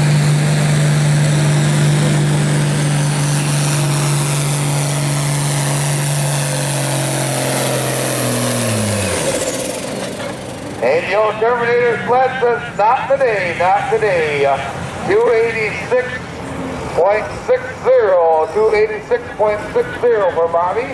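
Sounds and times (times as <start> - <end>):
tractor engine running hard: 0.0 - 20.9.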